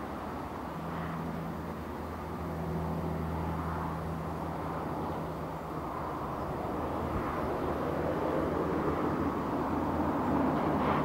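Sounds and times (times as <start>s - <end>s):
distant train on bridge: 0.0s - 11.0s.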